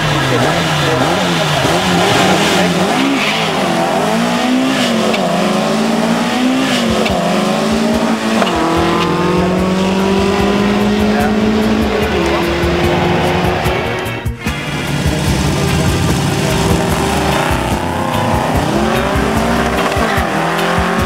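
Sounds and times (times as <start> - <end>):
drag racing car engines revving: 0.0 - 21.0.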